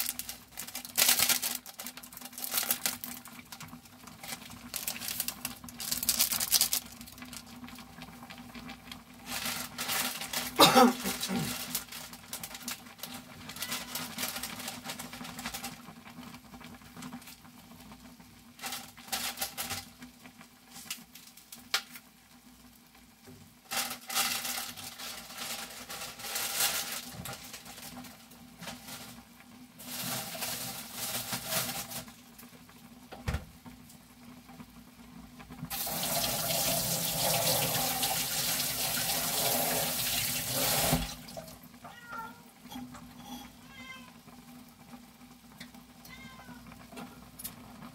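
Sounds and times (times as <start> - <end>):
broth boiling in a saucepan: 0.0 - 47.9.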